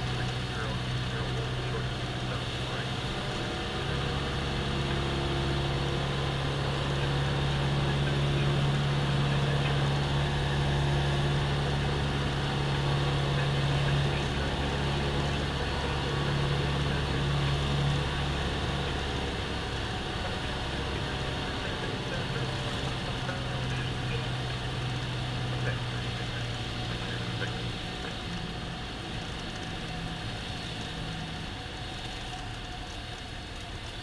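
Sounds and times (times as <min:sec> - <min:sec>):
aircraft engine and propeller droning: 0:00.0 - 0:34.0.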